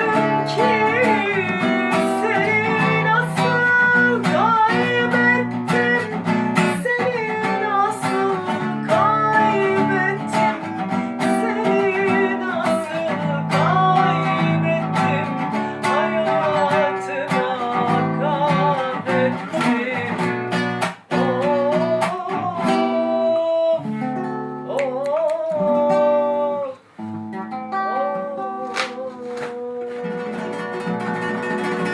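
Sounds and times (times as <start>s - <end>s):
acoustic guitar strumming: 0.0s - 31.9s
person singing: 0.0s - 31.9s.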